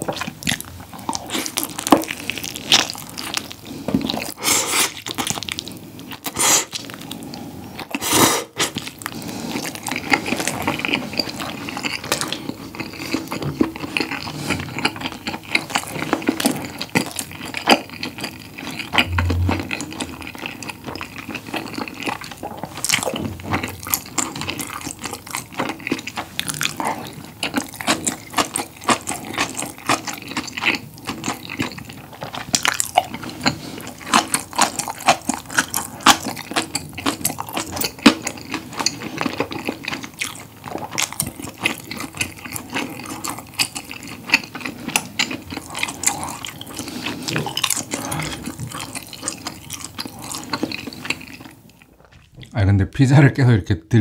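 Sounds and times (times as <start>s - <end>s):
close chewing with mouth clicks: 0.0s - 52.6s.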